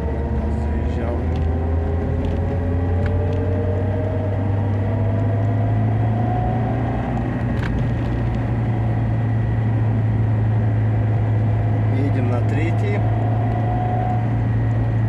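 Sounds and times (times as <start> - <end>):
car cabin drone with whine: 0.0 - 15.0.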